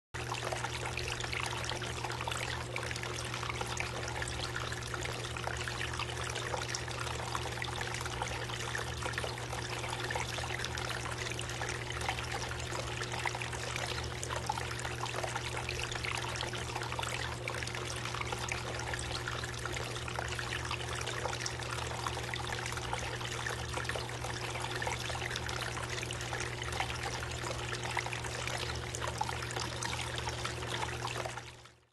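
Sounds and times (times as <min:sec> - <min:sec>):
water trickling down fountain: 0:00.2 - 0:31.9.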